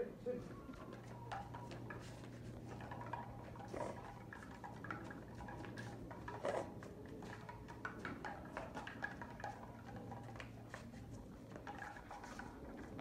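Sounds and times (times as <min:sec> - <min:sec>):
dog paws on wet paving: 0:00.4 - 0:13.0.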